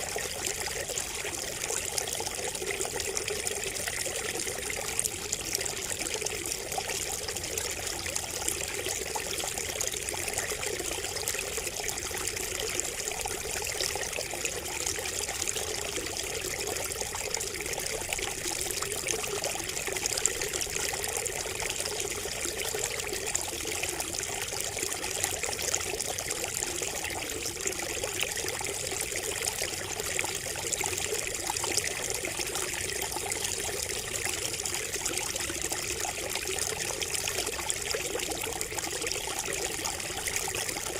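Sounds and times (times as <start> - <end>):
water trickling from spout: 0.0 - 40.9.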